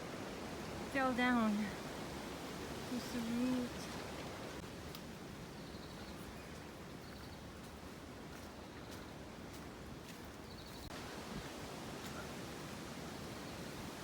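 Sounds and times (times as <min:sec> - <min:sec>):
wind and leaves hiss: 0:00.0 - 0:14.0.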